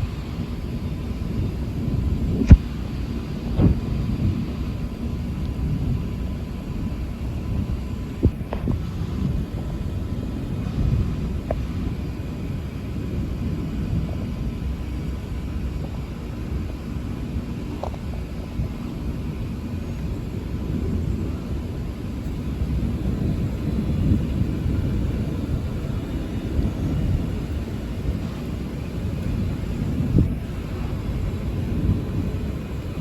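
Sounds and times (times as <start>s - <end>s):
thunder rumbling: 0.0s - 33.0s.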